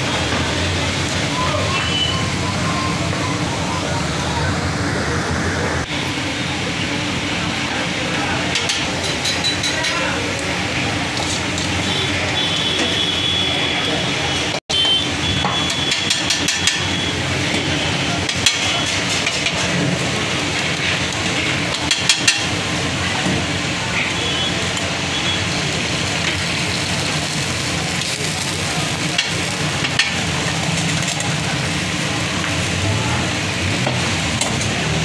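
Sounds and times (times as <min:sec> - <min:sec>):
batter sizzling on a griddle: 0:04.8 - 0:35.0.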